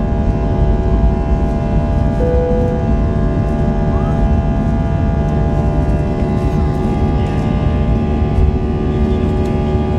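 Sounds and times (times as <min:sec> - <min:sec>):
jet engine whine: 0:00.0 - 0:09.9
jet engines rumbling in cabin: 0:00.0 - 0:09.9.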